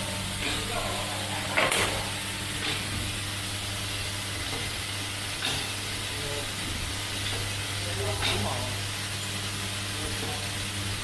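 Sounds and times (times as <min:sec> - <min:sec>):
machine humming and hissing: 0:00.0 - 0:11.0.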